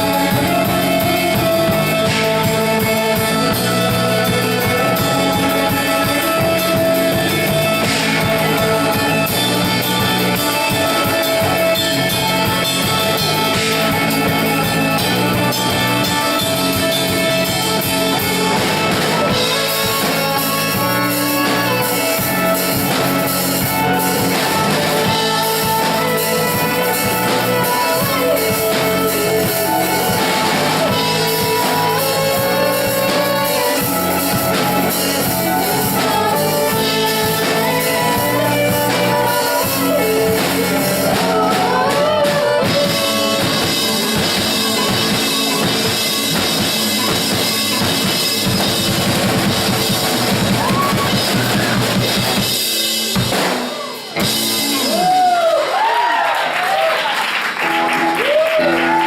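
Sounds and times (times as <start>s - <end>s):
person singing: 0.0s - 48.7s
drum kit: 0.0s - 59.0s
guitar: 0.0s - 59.0s.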